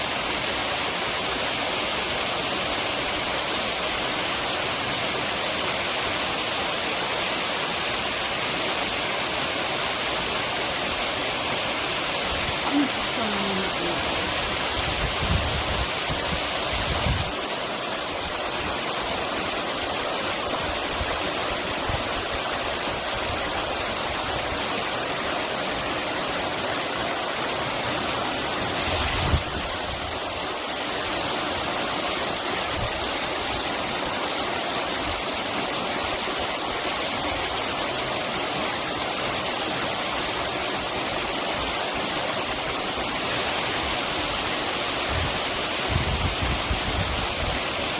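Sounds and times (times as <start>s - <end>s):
flowing water rushing: 0.0s - 47.9s.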